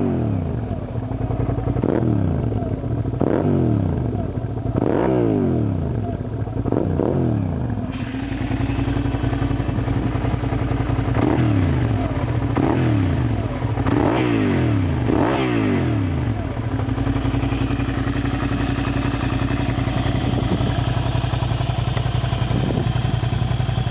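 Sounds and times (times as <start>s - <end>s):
motorcycle engine idling: 0.0s - 23.9s
motorcycle throttle blips: 0.0s - 23.9s.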